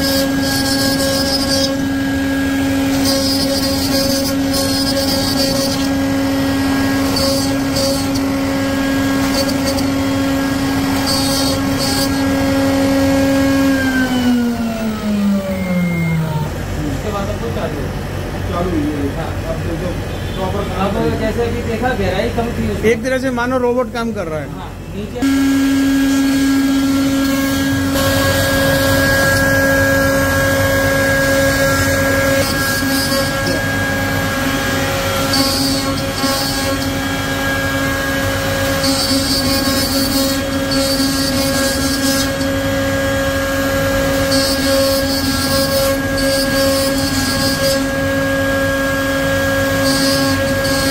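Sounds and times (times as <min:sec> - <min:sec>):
router spindle whine: 0:00.0 - 0:22.9, 0:24.9 - 0:50.9.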